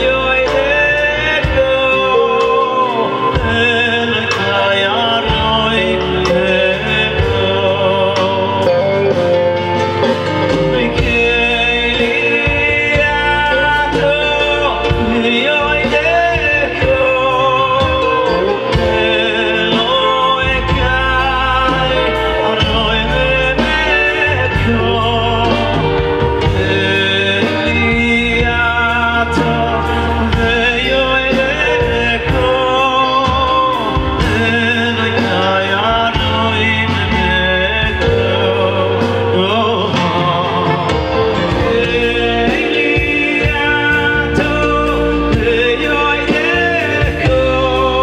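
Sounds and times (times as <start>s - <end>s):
bass: 0.0s - 48.0s
drum kit: 0.0s - 48.0s
electric guitar: 0.0s - 48.0s
man singing into a microphone: 0.0s - 48.0s.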